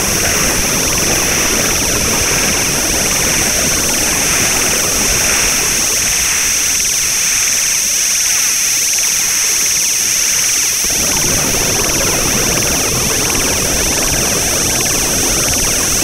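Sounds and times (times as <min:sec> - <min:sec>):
electronic hiss and crackle: 0:00.0 - 0:16.0.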